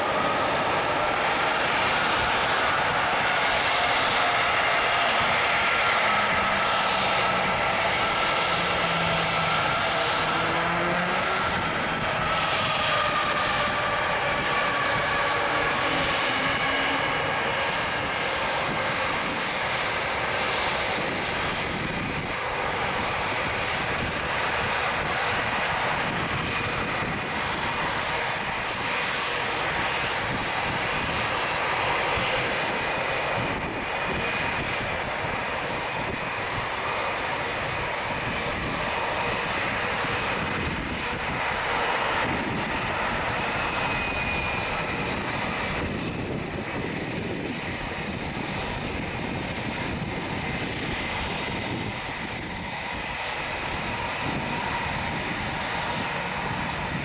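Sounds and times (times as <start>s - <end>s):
continuous rushing noise: 0.0s - 57.0s
jet engine whine: 0.0s - 57.0s.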